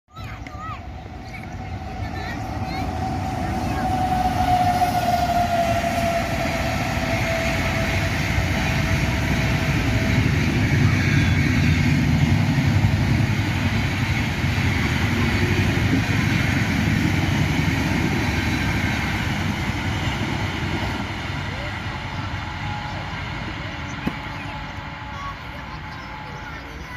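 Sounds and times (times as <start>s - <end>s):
train rumbling past: 0.1s - 26.9s.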